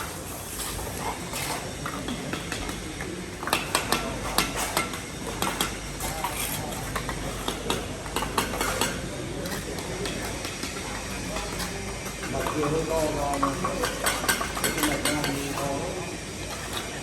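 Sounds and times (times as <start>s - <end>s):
trowels scraping wet mortar: 0.0s - 17.0s
trowels tapping on bricks: 0.6s - 15.8s.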